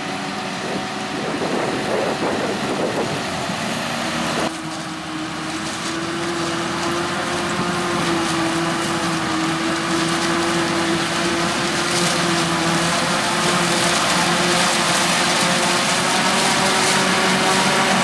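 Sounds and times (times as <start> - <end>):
harvesting machinery engine whining: 0.0 - 18.0.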